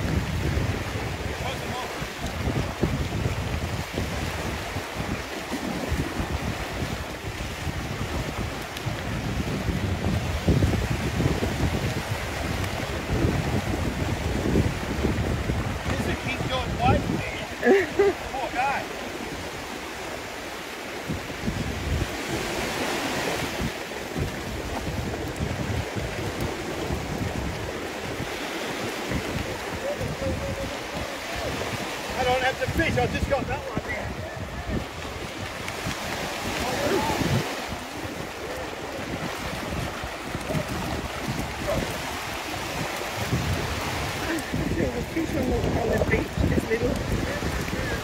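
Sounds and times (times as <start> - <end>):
surf washing and splashing: 0.0 - 48.0
wind buffeting microphone: 0.0 - 48.0.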